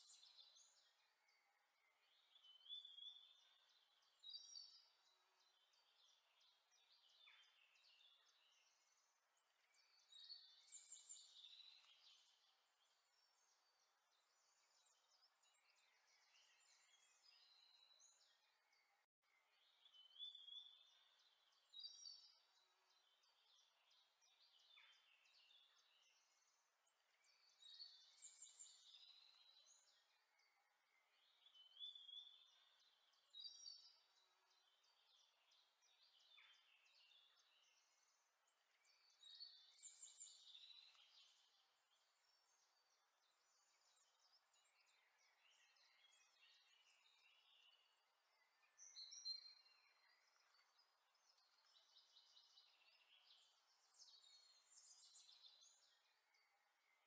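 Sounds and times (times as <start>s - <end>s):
faint birdsong chirps and trills: 0.0s - 57.0s.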